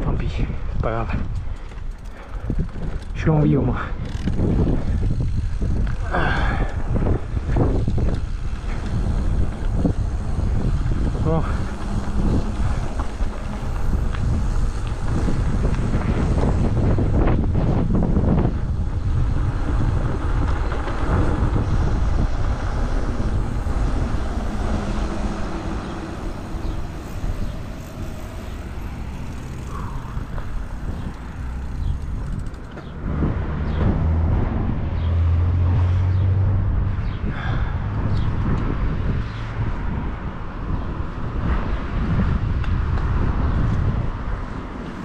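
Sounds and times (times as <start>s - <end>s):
wind buffeting the microphone: 0.0s - 45.0s.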